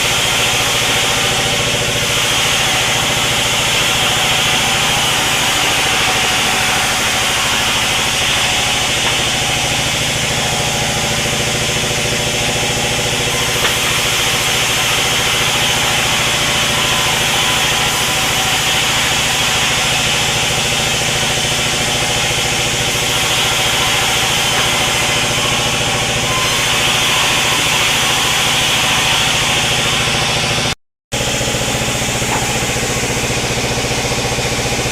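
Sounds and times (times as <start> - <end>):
sawmill motor hum: 0.0 - 34.9.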